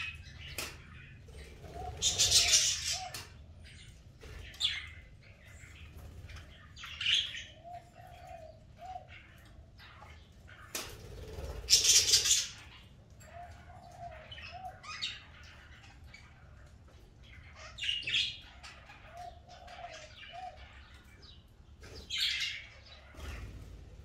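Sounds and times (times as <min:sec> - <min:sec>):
budgerigars chirping: 0:00.0 - 0:16.6, 0:17.3 - 0:24.0.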